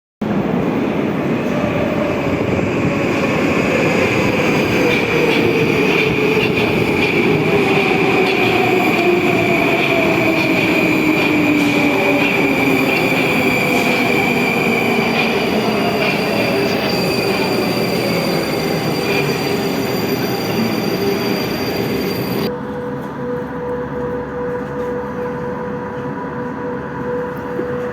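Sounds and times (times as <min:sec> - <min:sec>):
wheels rumbling on rail: 0:00.2 - 0:27.9.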